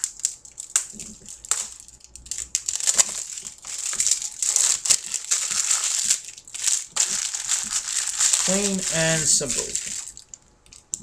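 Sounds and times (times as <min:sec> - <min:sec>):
plastic shrink-wrap crinkling: 0:00.0 - 0:11.0.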